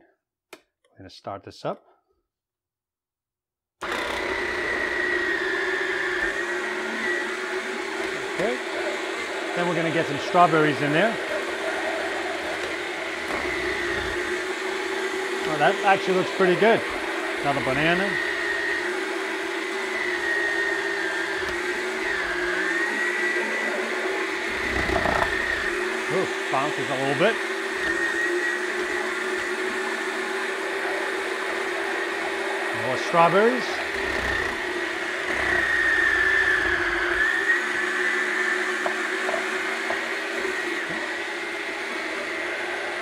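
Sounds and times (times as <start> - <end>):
electric motor whining: 3.8 - 43.0.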